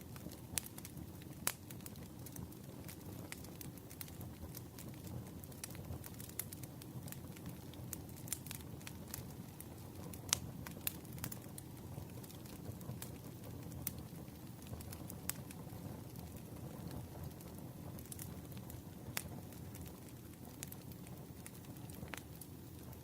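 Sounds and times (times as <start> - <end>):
campfire rumble: 0.0 - 23.0
fire crackles and pops: 0.0 - 23.0.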